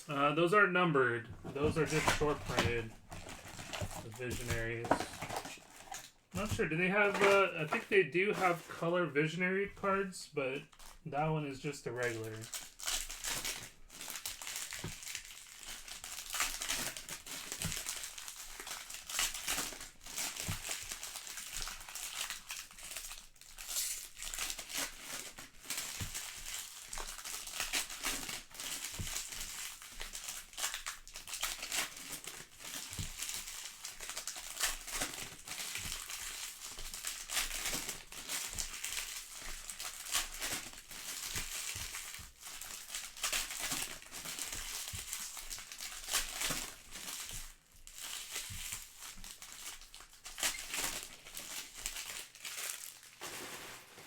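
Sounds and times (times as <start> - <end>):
plastic wrappers crinkling: 1.2 - 54.0.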